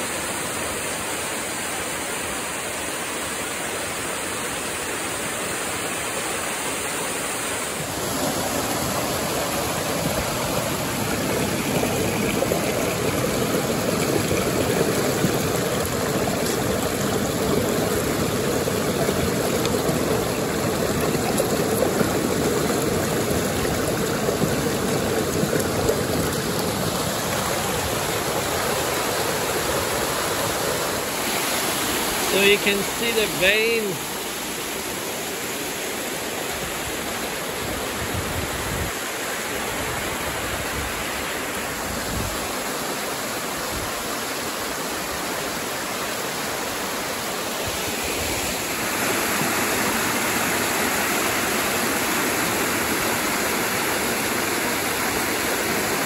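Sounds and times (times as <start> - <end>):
waterfall cascading over rocks: 0.0 - 56.0.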